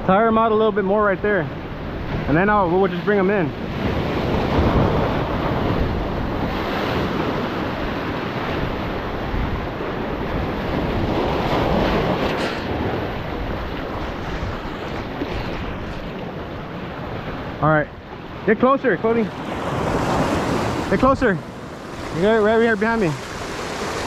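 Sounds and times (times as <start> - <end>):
surf breaking over rocks: 2.2 - 24.0.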